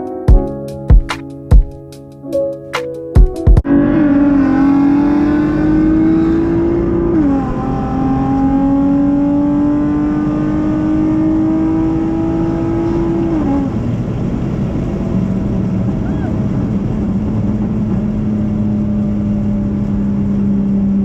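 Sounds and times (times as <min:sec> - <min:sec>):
car engine accelerating: 0:03.6 - 0:21.0.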